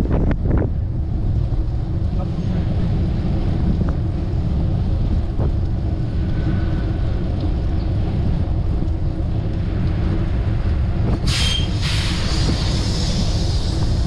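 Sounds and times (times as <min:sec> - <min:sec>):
low rumble: 0:00.0 - 0:14.0
wind buffeting microphone: 0:00.0 - 0:14.0.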